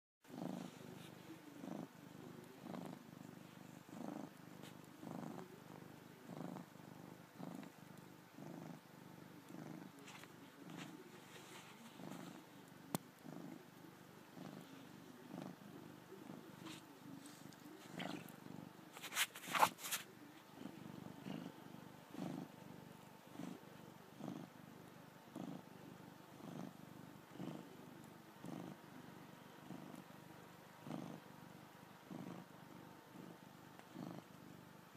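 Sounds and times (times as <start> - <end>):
cat purring: 0.2 - 34.9.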